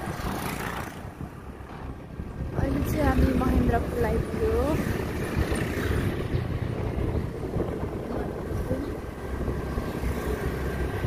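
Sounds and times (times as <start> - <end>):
motorbike engine rumble: 0.0 - 11.0
wind buffeting microphone: 0.0 - 11.0.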